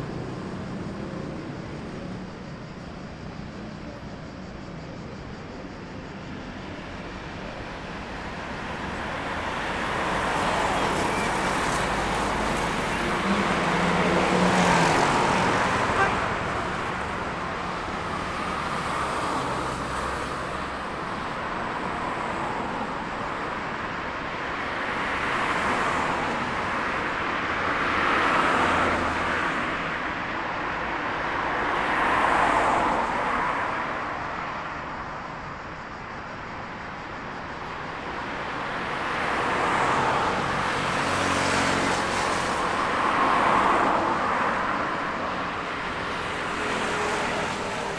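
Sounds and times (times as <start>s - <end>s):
traffic hum: 0.0s - 47.9s
cars passing: 6.7s - 35.2s, 36.5s - 47.9s.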